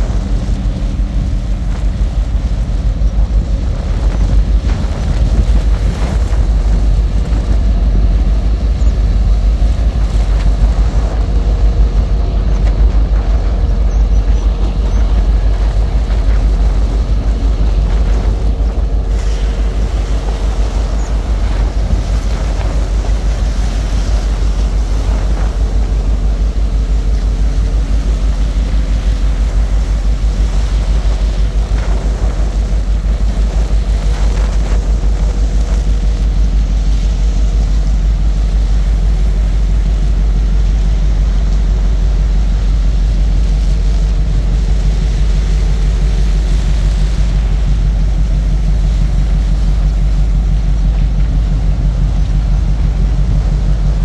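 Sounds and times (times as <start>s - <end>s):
deep pulsing machine rumble: 0.0s - 54.0s.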